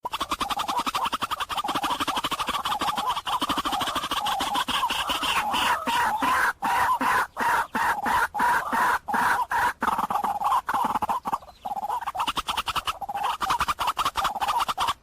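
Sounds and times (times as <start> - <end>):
bird harsh repeated calls: 0.0 - 15.0.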